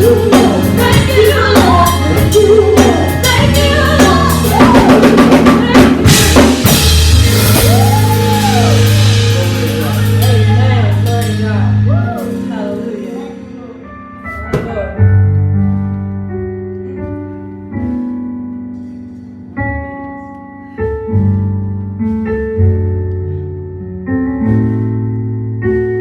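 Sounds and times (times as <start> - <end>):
keyboard playing slow chords: 0.0 - 26.0.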